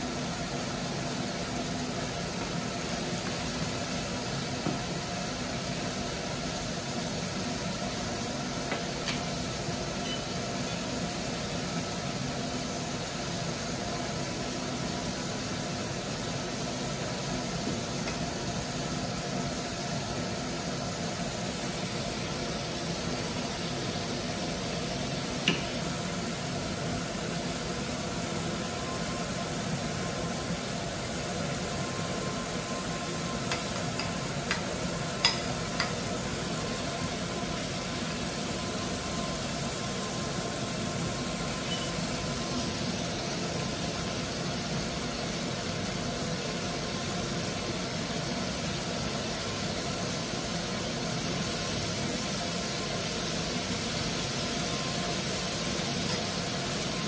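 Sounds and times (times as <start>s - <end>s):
food sizzling in a pan: 0.2s - 57.0s.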